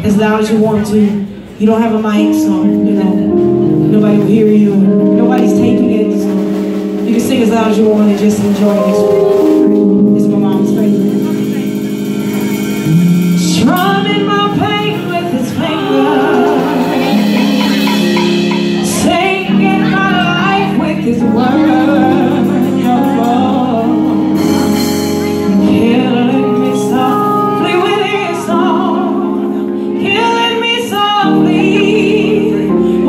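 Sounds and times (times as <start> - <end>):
live band playing: 0.0 - 33.0
woman singing: 0.1 - 6.4, 7.0 - 9.2, 13.4 - 33.0.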